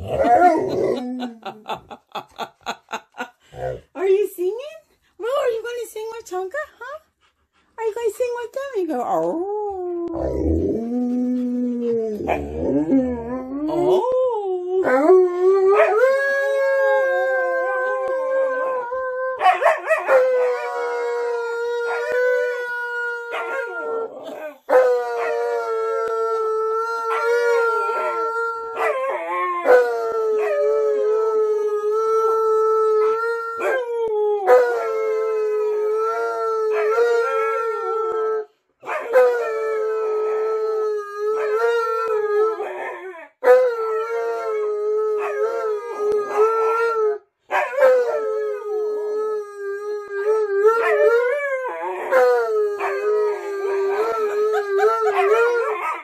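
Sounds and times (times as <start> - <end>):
dogs howling: 0.0 - 1.8, 9.7 - 49.3, 50.0 - 56.0.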